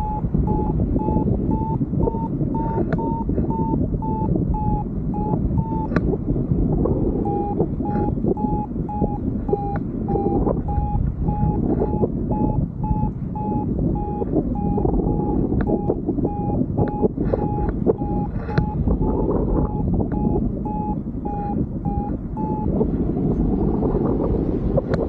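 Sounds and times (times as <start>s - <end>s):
variometer beeping: 0.0s - 23.4s
wind rumble on microphone: 0.0s - 25.0s.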